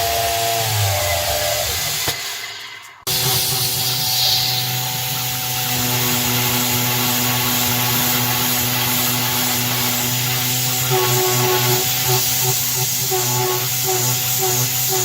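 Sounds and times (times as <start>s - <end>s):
milling machine cutting drone: 0.0s - 15.0s
coolant mist hissing: 1.7s - 15.0s.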